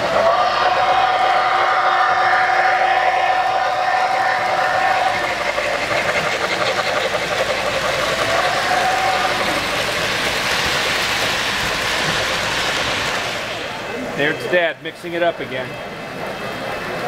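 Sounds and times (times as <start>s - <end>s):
model train wheels rumbling: 0.0s - 17.0s.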